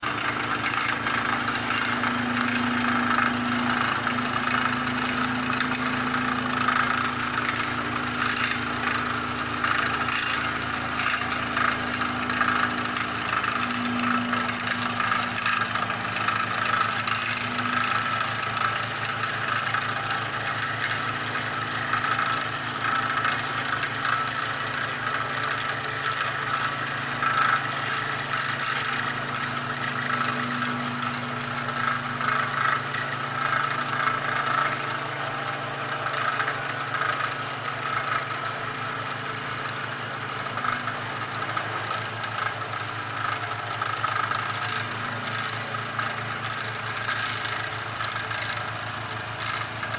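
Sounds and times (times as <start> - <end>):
vibratory pile hammer droning: 0.0 - 49.9.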